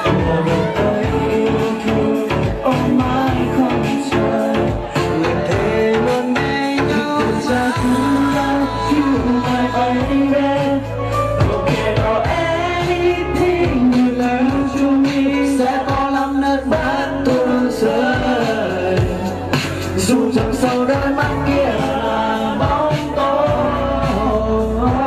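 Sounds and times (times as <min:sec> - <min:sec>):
man singing into microphone: 0:00.0 - 0:25.0
pop backing track: 0:00.0 - 0:25.0.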